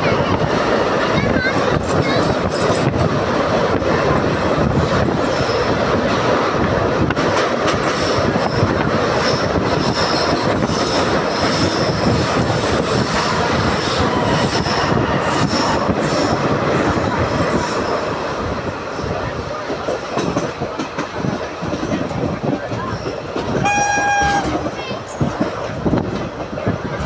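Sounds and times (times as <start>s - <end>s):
train wheel and rail running noise: 0.0s - 27.0s
rail-joint clicks: 1.0s - 6.4s, 7.0s - 18.4s, 19.7s - 27.0s.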